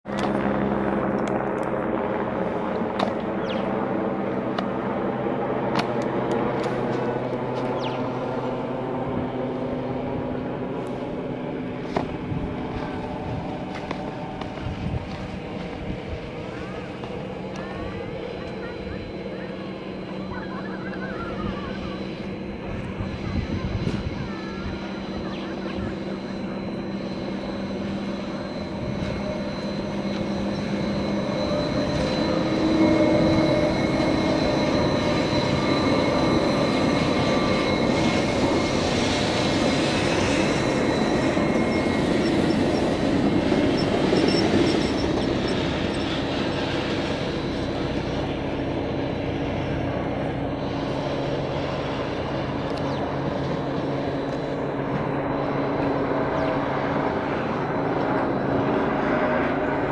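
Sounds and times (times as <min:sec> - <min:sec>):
thin steady high whine: 0:00.1 - 0:59.9
train rumble and rail noise: 0:00.1 - 0:59.9.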